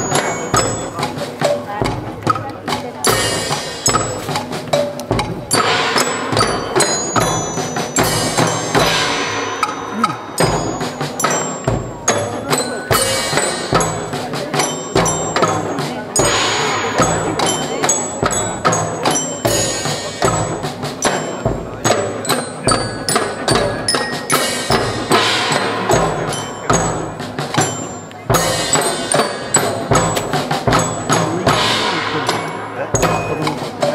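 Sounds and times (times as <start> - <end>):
bell lyres ringing melody: 0.0 - 1.9, 2.9 - 33.9
bass drum and snare march: 0.0 - 33.9.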